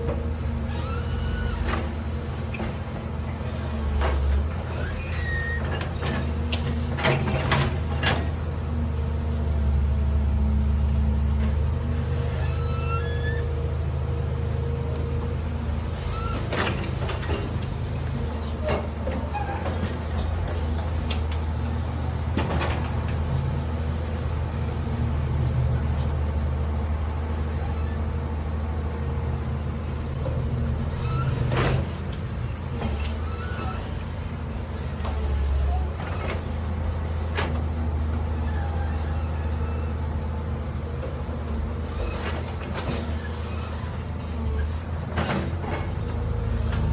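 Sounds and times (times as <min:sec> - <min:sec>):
heavy machine engine humming: 0:00.0 - 0:46.9.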